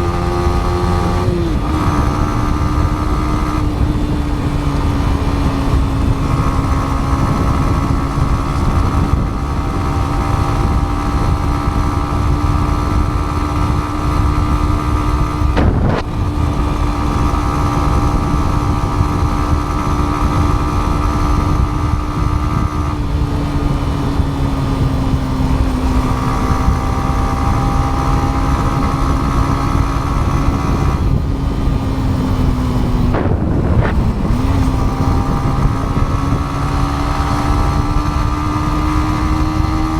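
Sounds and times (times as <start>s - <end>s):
low wind rumble: 0.0s - 39.9s
motorcycle engine cruising: 0.0s - 39.9s.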